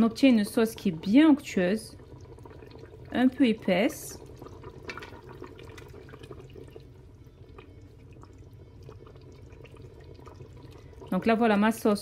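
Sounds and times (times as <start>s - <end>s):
low steady hum: 0.0s - 12.0s
sauce sloshing in a pot: 1.9s - 11.6s.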